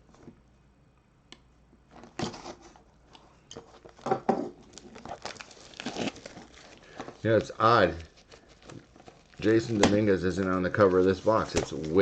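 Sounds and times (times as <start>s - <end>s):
cards rustling and scraping: 2.0s - 12.0s.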